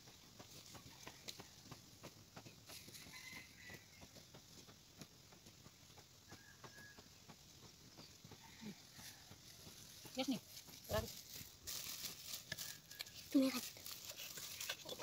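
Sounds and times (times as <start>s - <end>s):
hoes chopping into dry soil: 0.0s - 15.0s.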